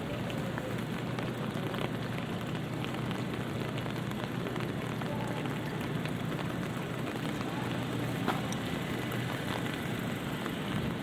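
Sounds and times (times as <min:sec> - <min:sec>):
light rain hissing: 0:00.0 - 0:11.0
low city hum: 0:00.0 - 0:11.0
raindrop ticks: 0:00.0 - 0:11.0.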